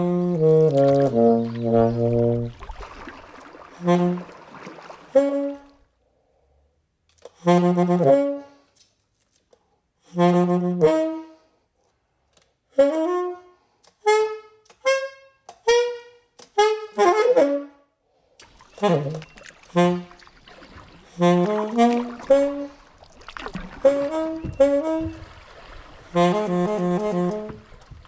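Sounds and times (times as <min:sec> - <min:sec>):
solo saxophone: 0:00.0 - 0:05.9, 0:07.2 - 0:08.8, 0:10.0 - 0:11.6, 0:12.7 - 0:17.9, 0:18.6 - 0:28.0.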